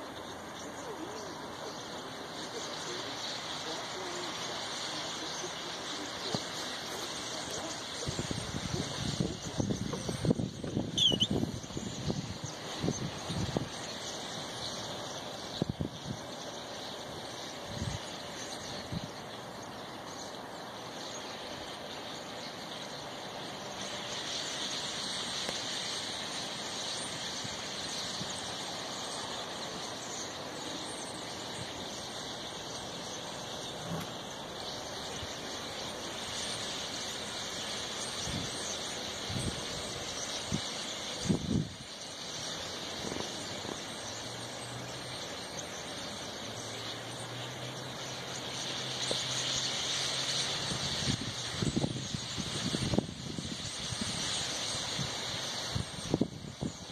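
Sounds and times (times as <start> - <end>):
flock of songbirds chattering: 0.0 - 56.9.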